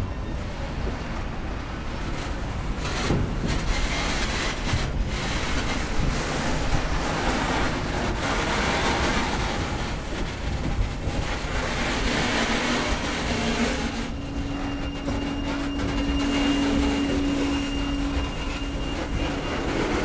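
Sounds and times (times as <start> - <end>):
train wagons rolling on rails: 0.0 - 20.0.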